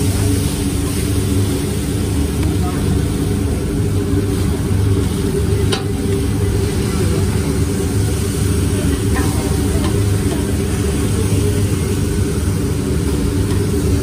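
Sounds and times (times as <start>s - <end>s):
food sizzling on griddle: 0.0s - 14.0s.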